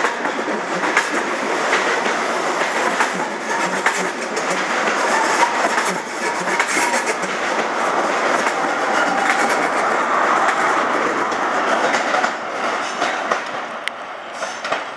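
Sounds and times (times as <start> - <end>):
rumble of rolling train: 0.0 - 14.9
train wheels clicking over rail joints: 0.0 - 14.9.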